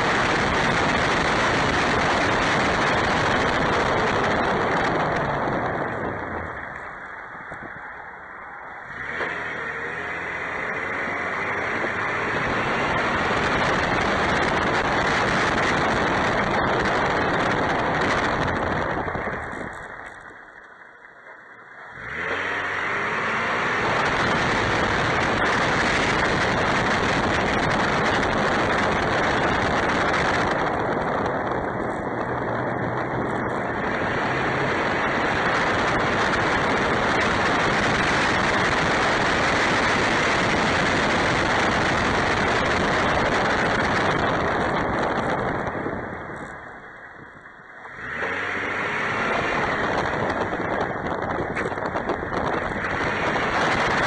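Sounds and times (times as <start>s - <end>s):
truck cabin road noise: 0.0s - 54.0s.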